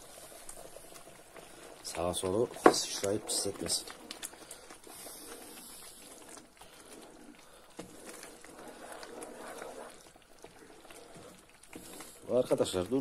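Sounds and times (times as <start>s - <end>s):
thick mixture bubbling: 0.0s - 13.0s.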